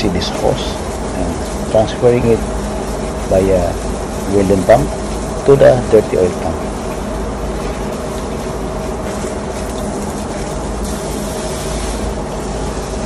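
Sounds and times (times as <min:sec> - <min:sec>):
engine room machinery hum: 0:00.0 - 0:13.0
water spray hissing on metal: 0:00.0 - 0:13.0.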